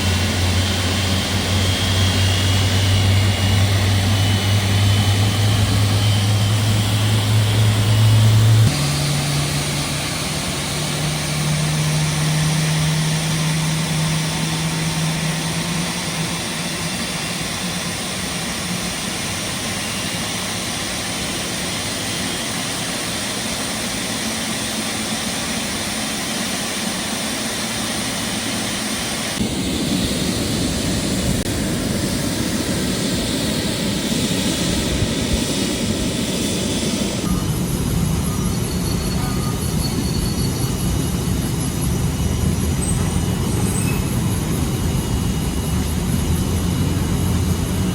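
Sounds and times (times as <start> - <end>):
jet turbine engine starting: 0.0 - 47.9.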